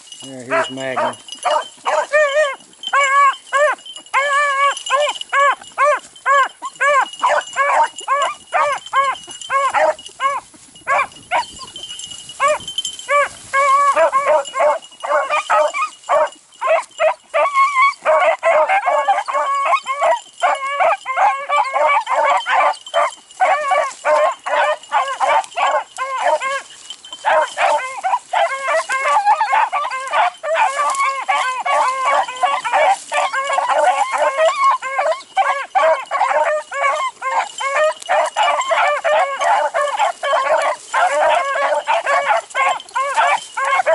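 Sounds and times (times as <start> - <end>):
hounds baying and barking: 0.0 - 43.9.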